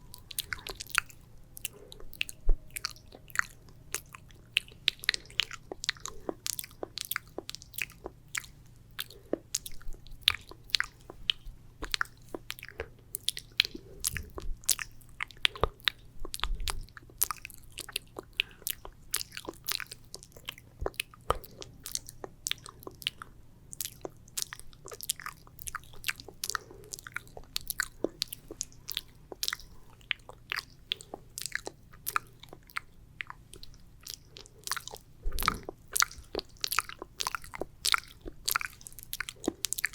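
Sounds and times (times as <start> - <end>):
wet mouth clicks and smacks: 0.2 - 39.9.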